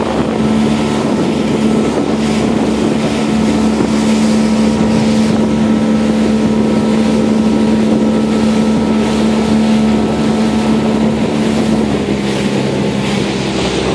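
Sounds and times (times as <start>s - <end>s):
motorboat engine humming: 0.0s - 13.9s
wind buffeting microphone: 0.0s - 13.9s.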